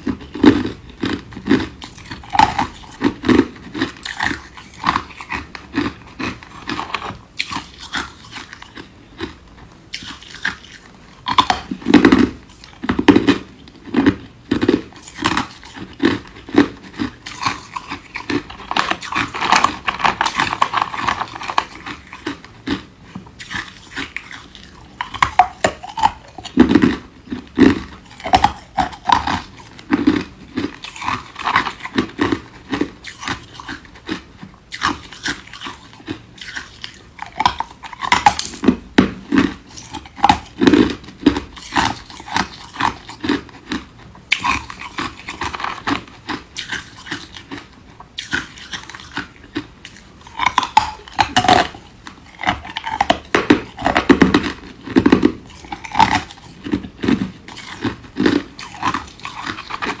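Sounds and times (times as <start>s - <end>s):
ice being crunched and chewed: 0.0s - 60.0s.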